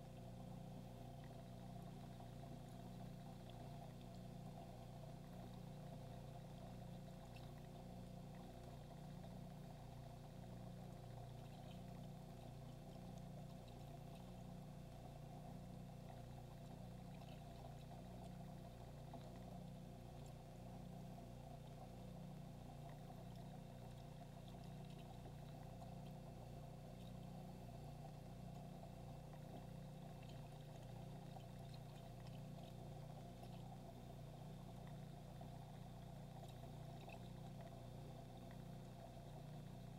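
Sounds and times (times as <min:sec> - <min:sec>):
aquarium filter humming: 0:00.0 - 0:39.9
trickling water: 0:00.0 - 0:39.9.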